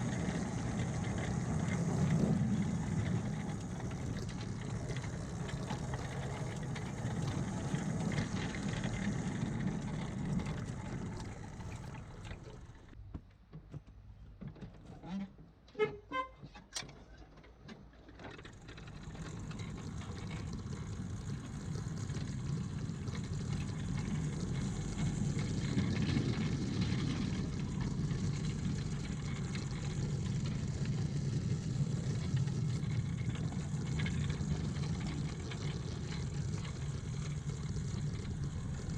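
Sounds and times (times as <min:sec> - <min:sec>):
train wheels rumbling on track: 0:00.0 - 0:13.0, 0:18.3 - 0:38.9.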